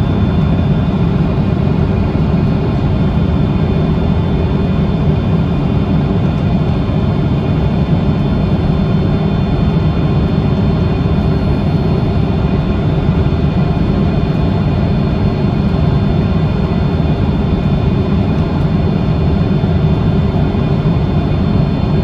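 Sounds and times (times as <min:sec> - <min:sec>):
faint steady whine: 0:00.0 - 0:22.0
jet engines and airflow roar: 0:00.0 - 0:22.0.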